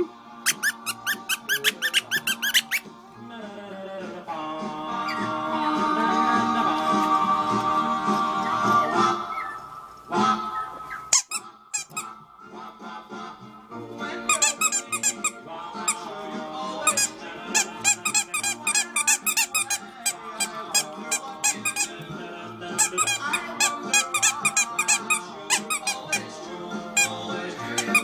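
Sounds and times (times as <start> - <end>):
background music with clicky beat: 0.0 - 28.0.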